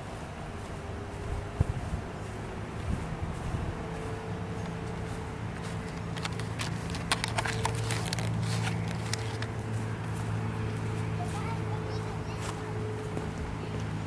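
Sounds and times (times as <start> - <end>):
steady low hum: 0.0 - 14.0
footsteps on concrete: 0.4 - 14.0.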